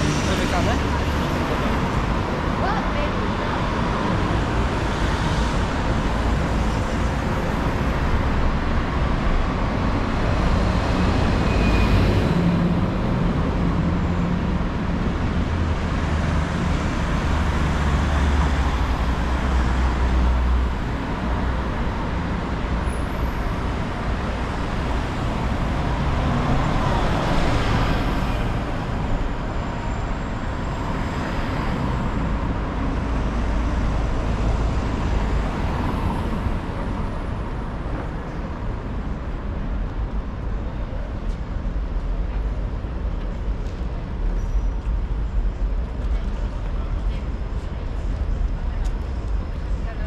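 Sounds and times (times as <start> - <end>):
passing traffic: 0.0 - 50.0.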